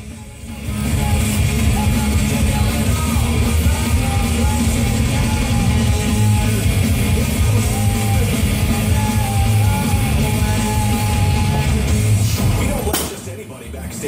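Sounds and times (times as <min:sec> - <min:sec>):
rock music from a radio: 0:00.0 - 0:14.0.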